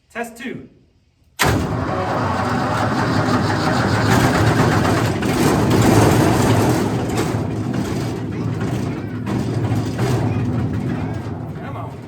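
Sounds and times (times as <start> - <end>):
gasoline engine running: 1.4 - 12.0.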